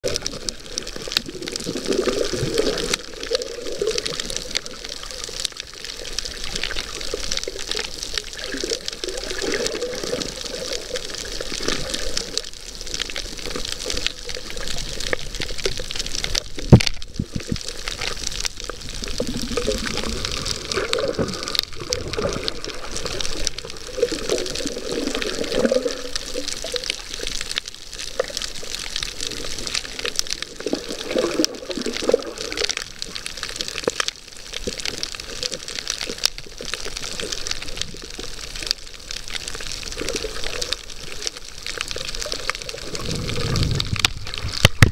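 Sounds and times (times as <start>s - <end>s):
fine crackling hiss: 0.0s - 44.9s
water sloshing underwater: 0.0s - 44.9s.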